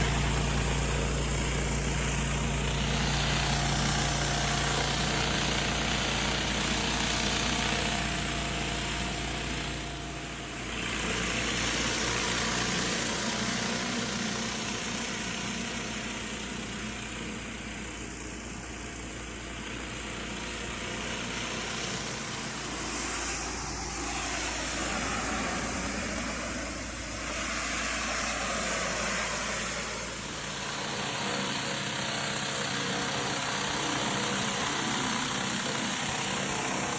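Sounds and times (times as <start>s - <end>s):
low engine hum: 0.0s - 36.9s.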